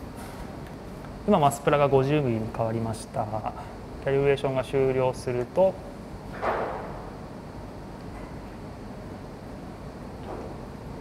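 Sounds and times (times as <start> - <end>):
low room rumble and hiss: 0.0 - 11.0.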